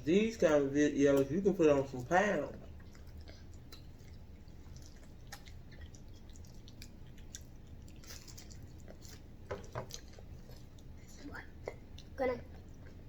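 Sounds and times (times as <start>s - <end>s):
person chewing food: 1.1s - 13.0s.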